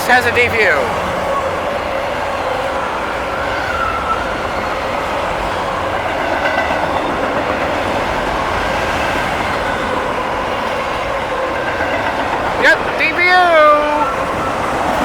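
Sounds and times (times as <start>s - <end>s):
train wheels rushing on rail: 0.0s - 15.0s.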